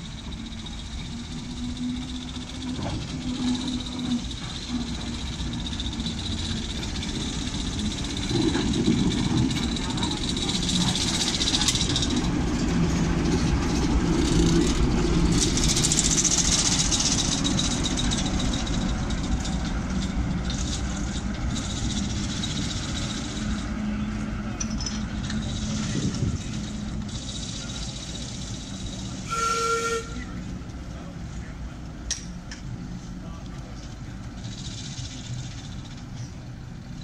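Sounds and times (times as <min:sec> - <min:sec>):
diesel locomotive engine running: 0:00.0 - 0:37.0.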